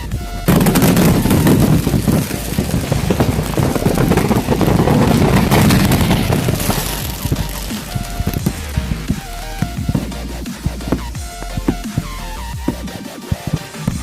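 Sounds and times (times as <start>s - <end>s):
firecrackers cracking and banging: 0.0s - 14.0s.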